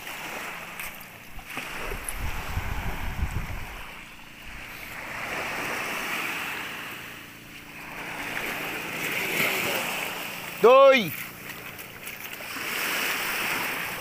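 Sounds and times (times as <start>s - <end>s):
small waves washing onto shore: 0.0s - 14.0s.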